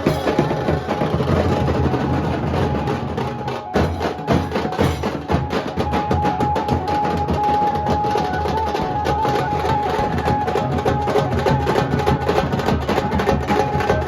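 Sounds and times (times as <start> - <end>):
fast drumming: 0.0 - 14.0.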